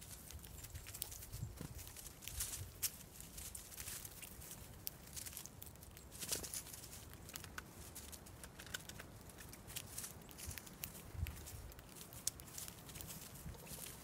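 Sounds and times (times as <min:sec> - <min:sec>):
beaks tapping on seed and stone: 0:00.0 - 0:14.0.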